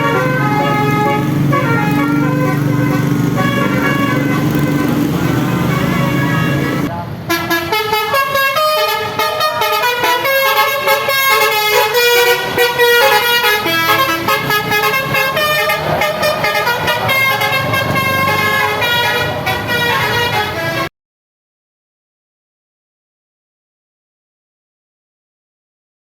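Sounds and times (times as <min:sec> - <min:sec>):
musical air horn playing tune: 0:00.0 - 0:20.9.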